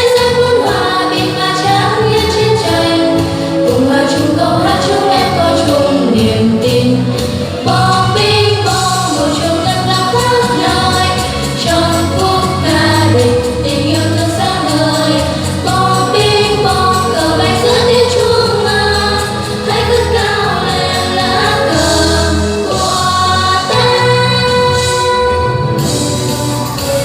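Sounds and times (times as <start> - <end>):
vocal group singing in chorus: 0.0 - 26.0
musical accompaniment: 0.0 - 27.0.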